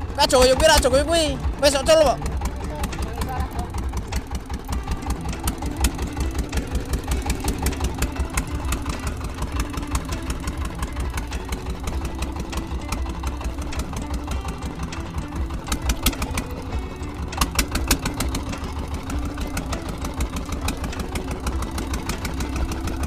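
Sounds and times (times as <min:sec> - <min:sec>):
motor boat engine running: 0:00.0 - 0:23.0
sharp ticks: 0:00.2 - 0:23.0.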